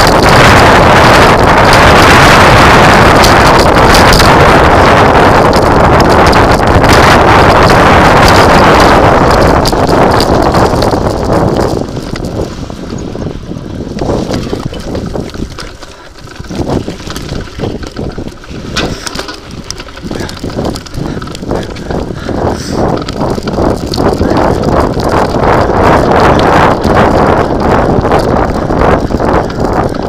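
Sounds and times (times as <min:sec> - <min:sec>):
tyres rolling on wet gravel: 0:00.0 - 0:30.0
wind buffeting microphone: 0:00.0 - 0:30.0.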